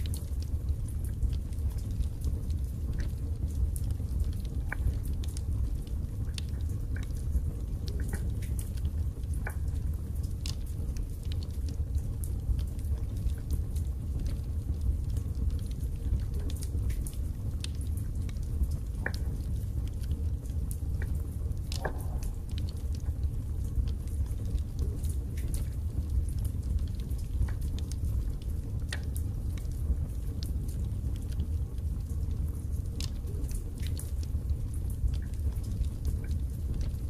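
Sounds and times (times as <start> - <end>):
fire burning in fireplace: 0.0 - 37.0
logs crackling and popping: 0.0 - 37.0.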